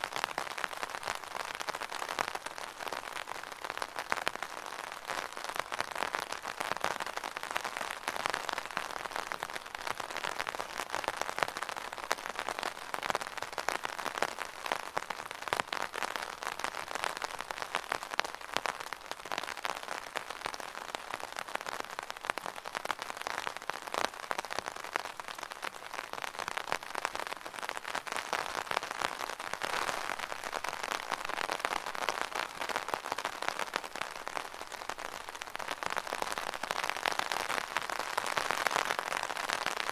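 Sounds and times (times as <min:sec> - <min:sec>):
rain pattering on umbrella: 0:00.0 - 0:39.9.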